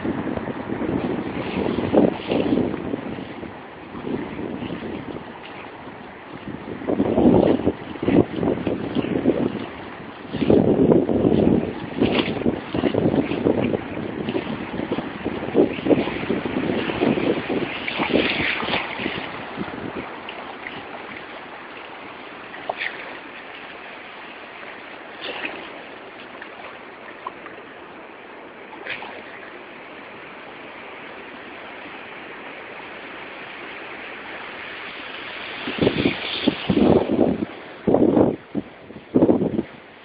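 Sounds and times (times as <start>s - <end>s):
sea water washing: 0.0s - 40.0s
water splashes: 0.0s - 40.0s
wind on microphone: 0.0s - 40.0s.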